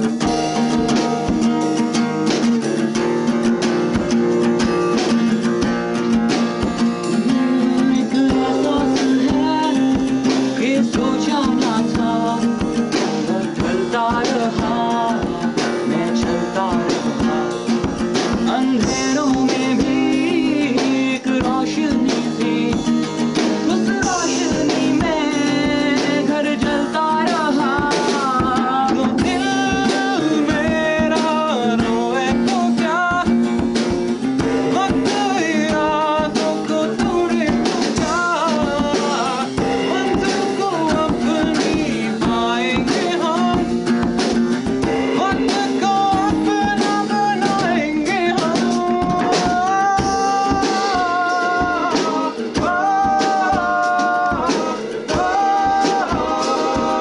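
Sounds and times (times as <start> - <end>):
drum kit: 0.0 - 57.0
man singing: 0.0 - 57.0
strummed acoustic guitar: 0.0 - 57.0.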